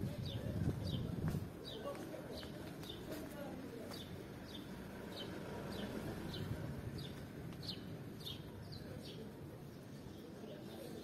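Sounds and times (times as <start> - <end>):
low background murmur: 0.0 - 11.0.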